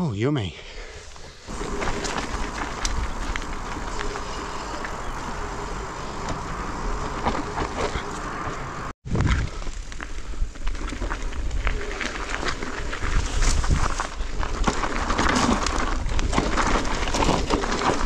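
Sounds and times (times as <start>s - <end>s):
bike tyres rolling over dirt: 1.1s - 18.0s
bike clicks and rattles: 1.5s - 8.7s, 10.6s - 18.0s
wind rumbling on microphone: 1.5s - 18.0s.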